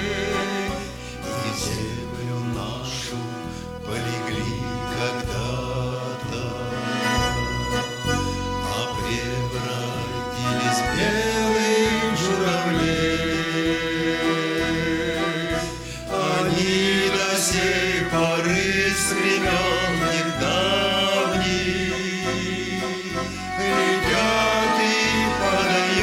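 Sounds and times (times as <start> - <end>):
music melody over pulsing bass: 0.0 - 26.0.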